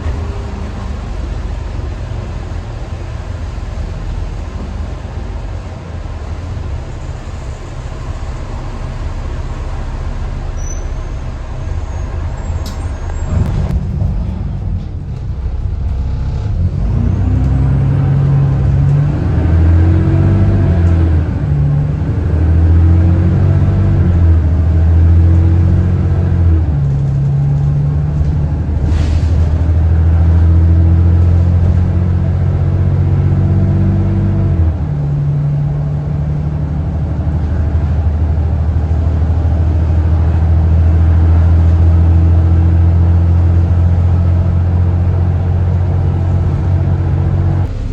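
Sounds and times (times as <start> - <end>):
bus diesel engine accelerating: 0.0 - 47.9.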